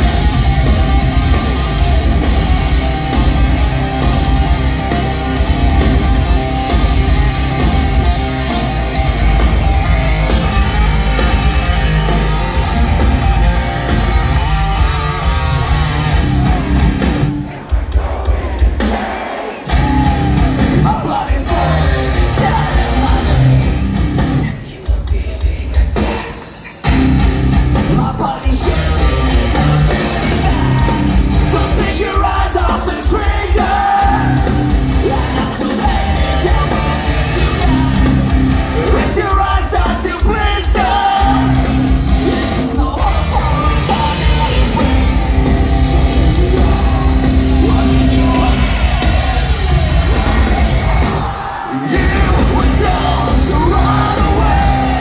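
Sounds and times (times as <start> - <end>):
heavy metal band playing live: 0.0 - 55.0
shouted and sung vocals: 0.0 - 55.0.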